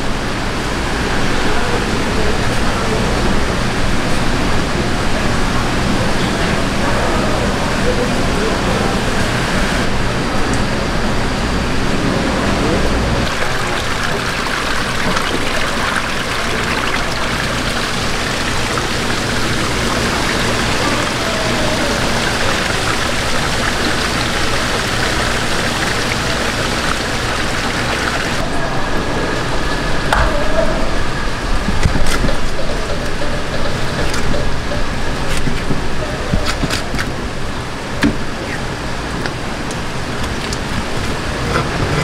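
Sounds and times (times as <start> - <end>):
running water in fish tank: 0.0 - 42.0.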